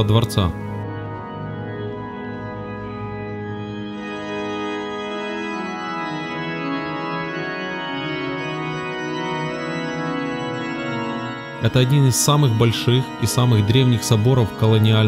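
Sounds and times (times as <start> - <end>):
pipe organ playing chords: 0.0 - 15.0.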